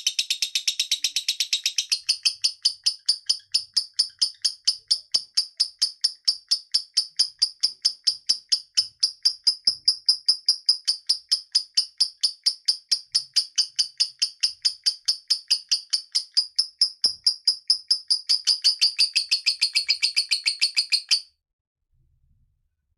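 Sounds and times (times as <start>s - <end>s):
lovebird rapid high chirps: 0.0s - 21.3s.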